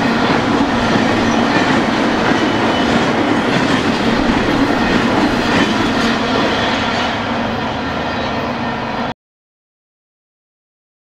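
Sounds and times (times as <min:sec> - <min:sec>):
train wheels on rail: 0:00.0 - 0:09.1.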